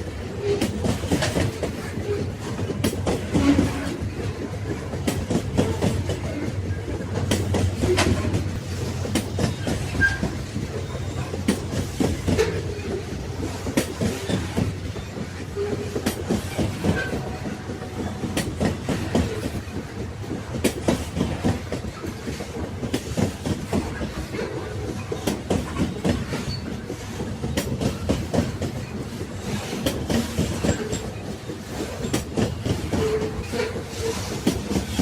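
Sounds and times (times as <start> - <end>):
railway carriages rumbling: 0.0 - 35.0
wheels clicking over rail joints: 0.4 - 35.0.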